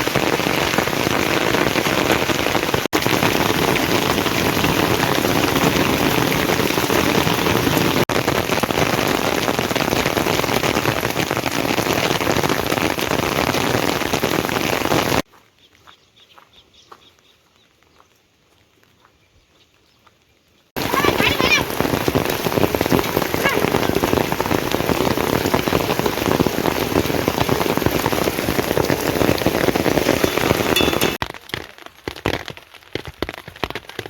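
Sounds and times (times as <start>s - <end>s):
heavy rain pouring: 0.0s - 15.3s, 20.8s - 34.0s.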